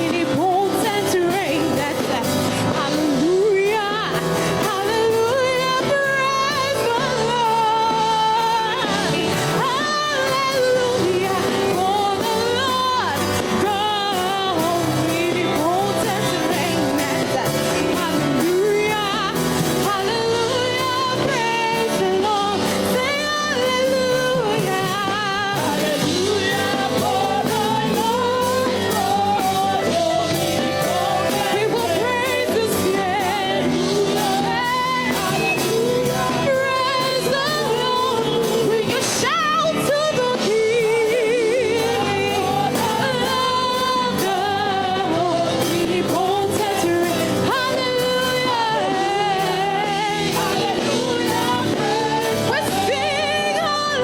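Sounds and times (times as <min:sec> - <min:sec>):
band with steady beat: 0:00.0 - 0:54.0
voices singing: 0:00.0 - 0:54.0.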